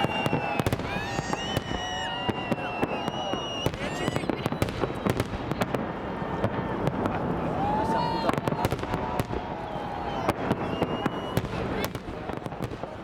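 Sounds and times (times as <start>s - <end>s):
fireworks whistling: 0.0s - 7.2s, 7.9s - 12.7s
fireworks bangs and crackles: 0.0s - 13.0s.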